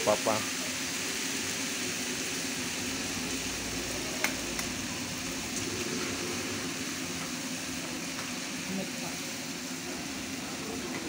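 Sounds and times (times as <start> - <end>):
noodles sizzling in a wok: 0.0 - 11.0.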